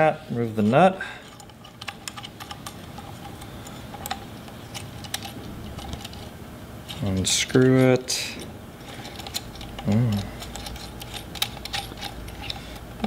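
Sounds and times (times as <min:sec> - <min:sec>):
clicks of small parts handled: 0:01.2 - 0:06.3, 0:06.9 - 0:12.9.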